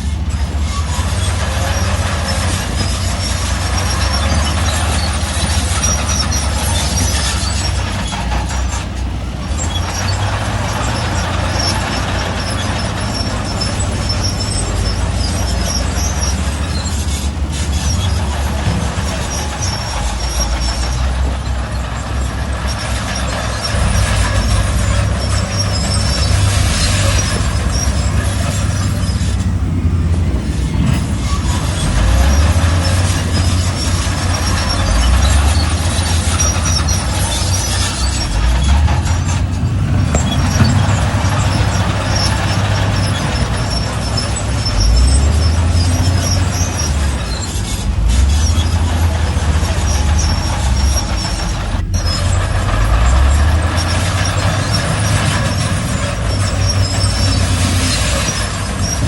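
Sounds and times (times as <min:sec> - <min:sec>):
diesel engine rumble: 0:00.0 - 0:59.0
metallic clatter: 0:00.2 - 0:59.0
faint high squeaks: 0:00.3 - 0:29.6, 0:30.8 - 0:59.0.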